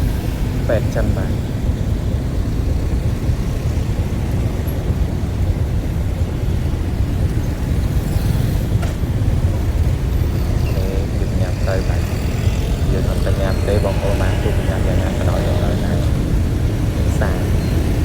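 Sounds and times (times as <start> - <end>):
vehicle wind and road noise: 0.0 - 18.0.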